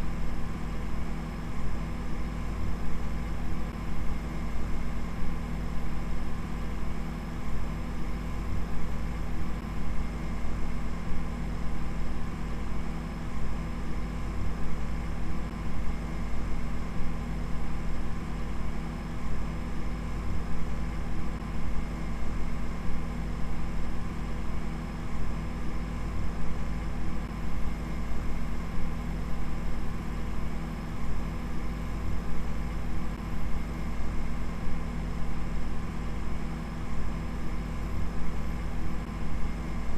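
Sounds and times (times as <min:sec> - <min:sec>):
low droning hum with hiss: 0:00.0 - 0:39.9.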